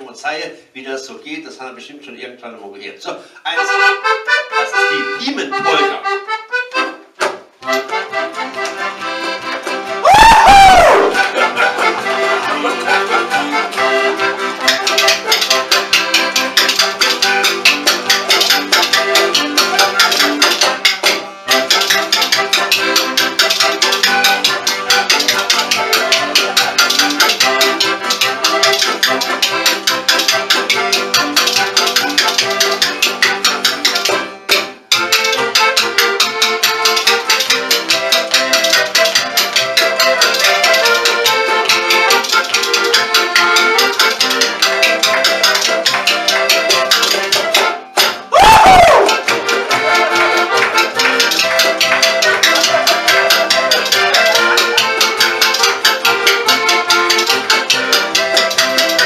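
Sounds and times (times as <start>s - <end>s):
polka music: 0.0s - 59.0s.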